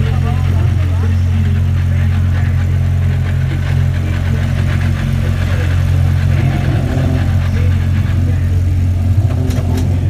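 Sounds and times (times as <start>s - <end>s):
race car engine idling: 0.0s - 10.0s.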